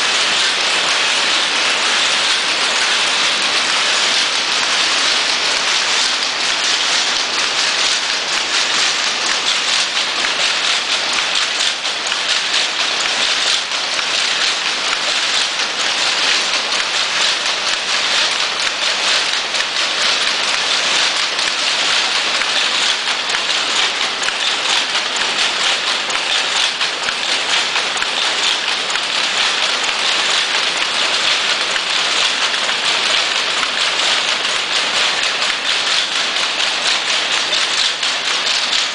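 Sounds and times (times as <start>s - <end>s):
loom rattling clatter: 0.0s - 38.9s.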